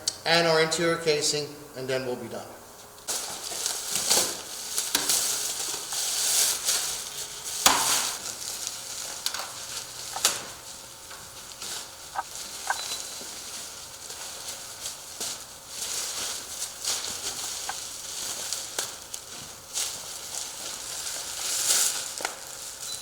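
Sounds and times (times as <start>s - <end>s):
plastic covers crackling: 3.0s - 23.0s.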